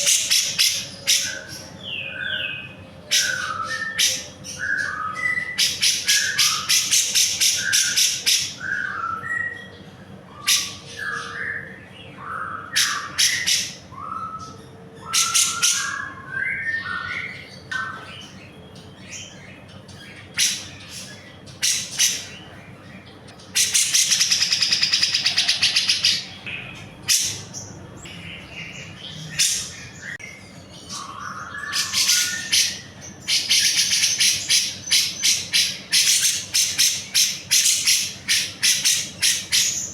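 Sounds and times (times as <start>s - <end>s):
bird singing with scratchy chatter: 0.0s - 39.9s
bird trill: 0.0s - 39.9s.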